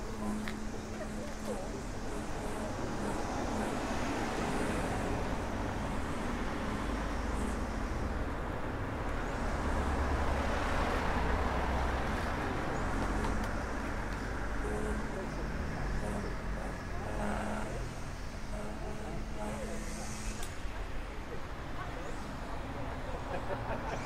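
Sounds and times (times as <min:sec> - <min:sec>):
motor traffic hum: 0:00.0 - 0:24.0.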